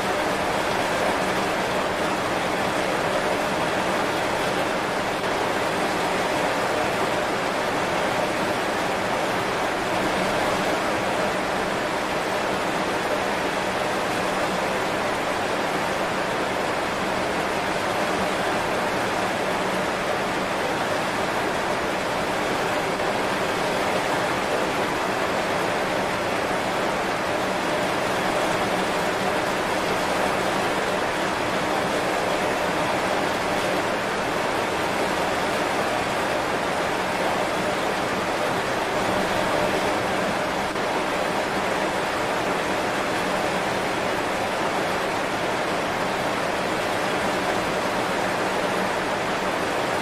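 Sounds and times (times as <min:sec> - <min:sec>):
heavy rain on leaves: 0:00.0 - 0:50.0.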